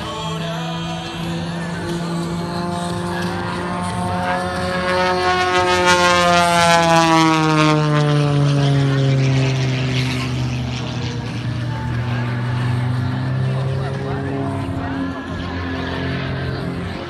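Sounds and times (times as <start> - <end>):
propeller plane passing overhead: 0.0 - 17.0.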